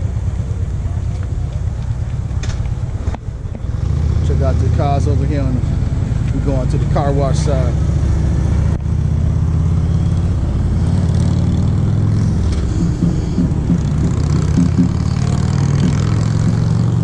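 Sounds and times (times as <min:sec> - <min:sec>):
engine droning: 0:00.0 - 0:17.0
passing road traffic: 0:00.0 - 0:17.0.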